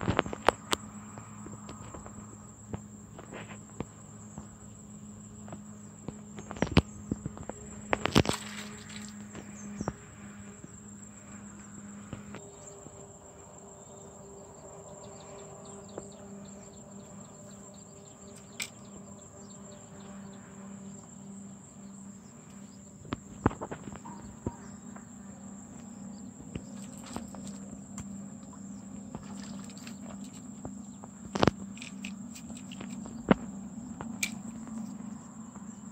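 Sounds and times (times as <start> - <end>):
insects chirring: 0.0 - 35.9.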